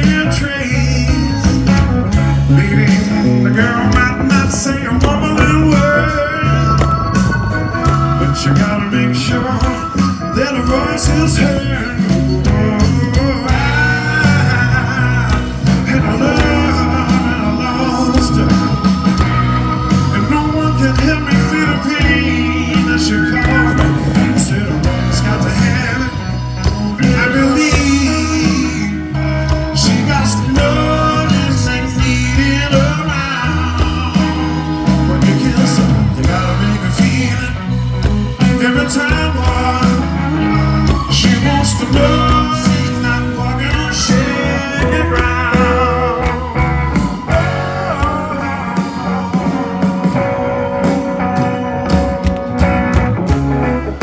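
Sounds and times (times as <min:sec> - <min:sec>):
man singing: 0:00.0 - 0:52.8
blues-rock band playing: 0:00.0 - 0:54.0.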